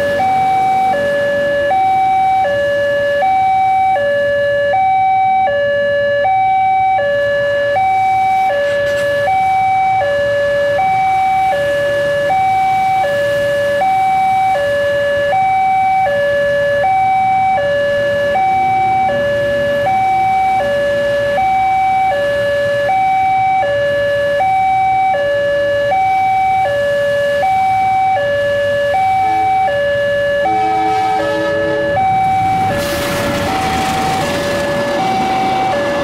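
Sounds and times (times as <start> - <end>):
level crossing two-tone alarm: 0.0 - 36.0.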